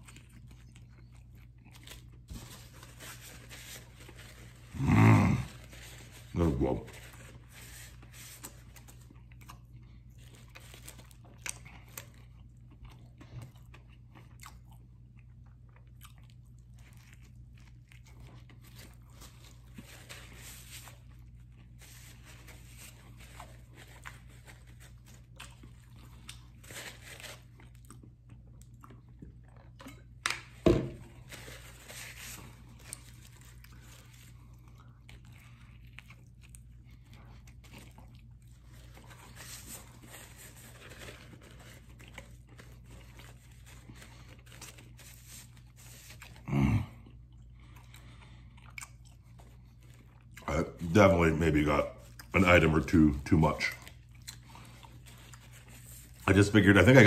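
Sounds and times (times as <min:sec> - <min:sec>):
man chewing food: 0:00.0 - 0:51.0, 0:51.6 - 0:56.3.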